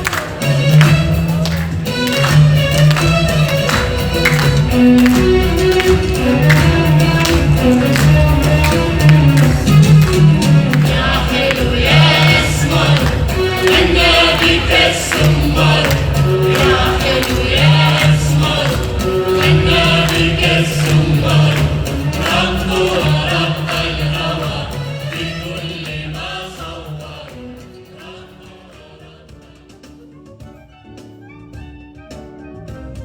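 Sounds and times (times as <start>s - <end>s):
choir singing: 0.0s - 30.0s
percussion: 0.0s - 33.0s.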